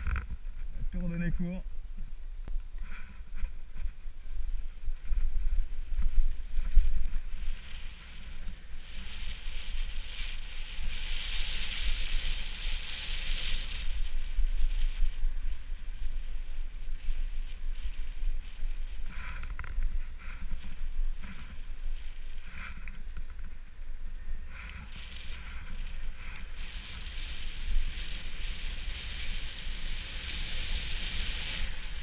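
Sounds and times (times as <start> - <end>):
wind buffeting microphone: 0.0 - 32.0
bike tyre hiss on asphalt: 4.7 - 32.0.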